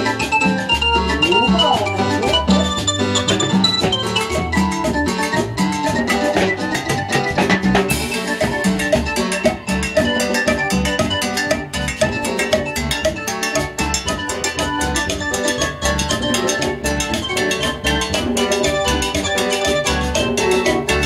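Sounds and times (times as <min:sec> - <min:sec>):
congas: 0:00.0 - 0:21.0
cowbell: 0:00.0 - 0:21.0
electric bass: 0:00.0 - 0:21.0.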